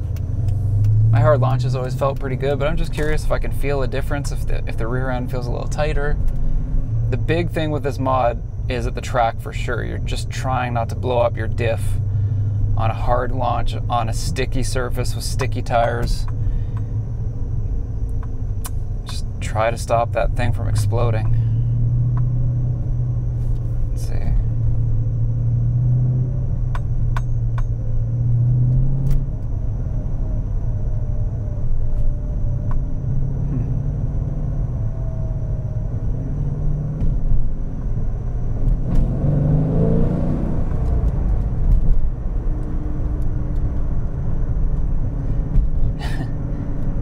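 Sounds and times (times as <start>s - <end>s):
car engine running: 0.0s - 47.0s.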